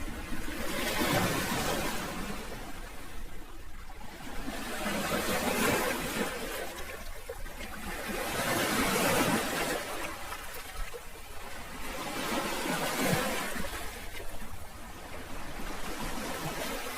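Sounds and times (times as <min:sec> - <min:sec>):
sea waves washing in: 0:00.0 - 0:16.9.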